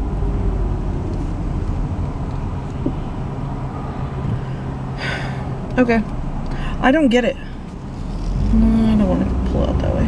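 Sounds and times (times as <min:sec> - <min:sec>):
faint car engine hum: 0:00.0 - 0:10.0
road rumble inside car: 0:00.0 - 0:10.0.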